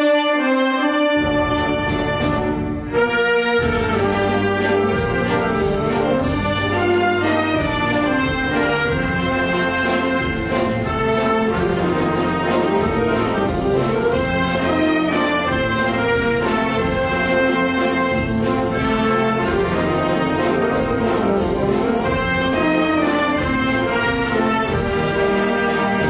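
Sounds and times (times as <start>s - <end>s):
concert wind band playing: 0.0s - 26.0s.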